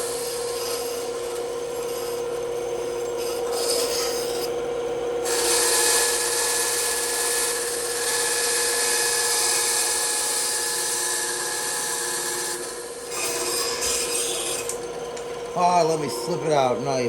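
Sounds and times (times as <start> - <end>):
bandsaw cutting wood: 0.0 - 4.5, 5.2 - 14.8.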